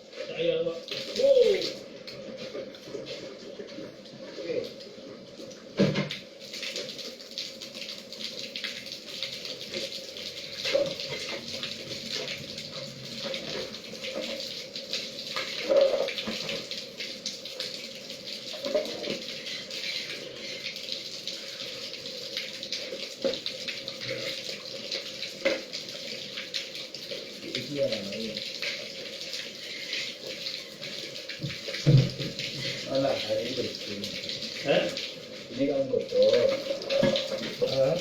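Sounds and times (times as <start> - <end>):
water running and splashing: 0.0 - 38.0.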